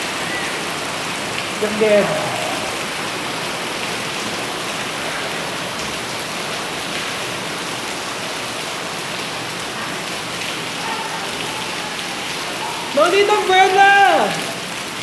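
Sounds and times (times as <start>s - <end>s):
heavy rain pattering: 0.0s - 15.0s.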